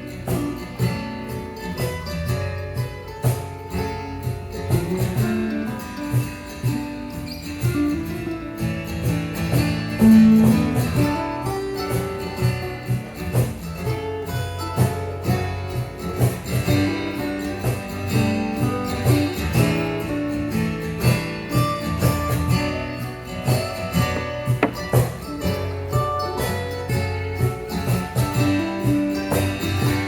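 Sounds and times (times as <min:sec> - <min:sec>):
acoustic guitar strummed and plucked: 0:00.0 - 0:30.0.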